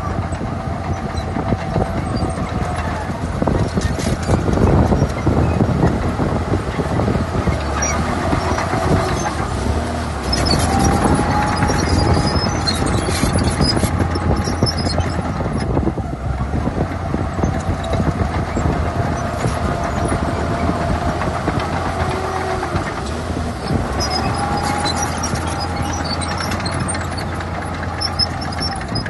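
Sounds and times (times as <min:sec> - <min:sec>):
diesel engine noise: 0:00.0 - 0:29.0
metallic squealing: 0:00.9 - 0:15.8, 0:17.2 - 0:29.0.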